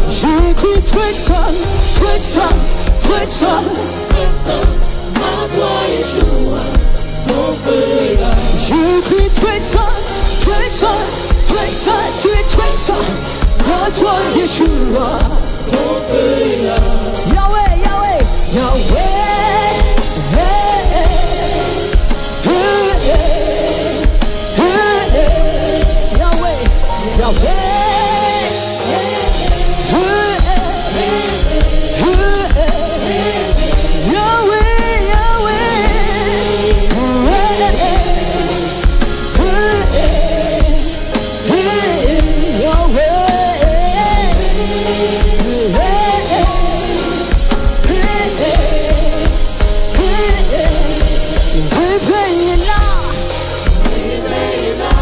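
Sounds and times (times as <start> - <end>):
band playing steady beat: 0.0 - 55.0
person singing: 0.0 - 55.0.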